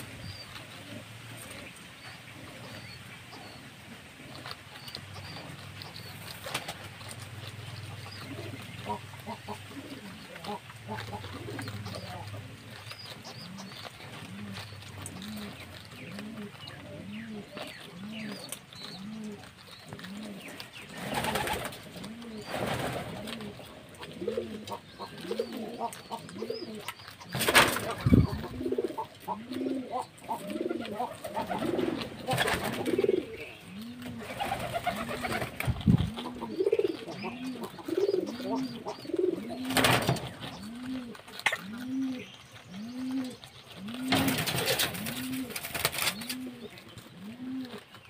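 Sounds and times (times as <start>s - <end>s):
pigeons cooing: 0.0s - 48.0s.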